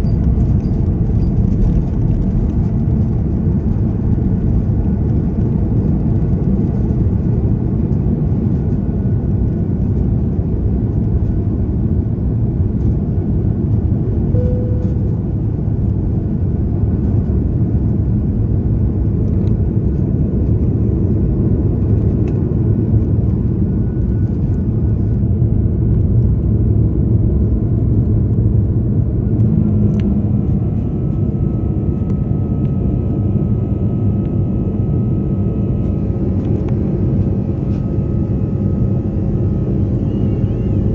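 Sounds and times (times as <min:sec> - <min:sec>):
engine and airflow rumble: 0:00.0 - 0:40.9
faint whine: 0:00.0 - 0:40.9.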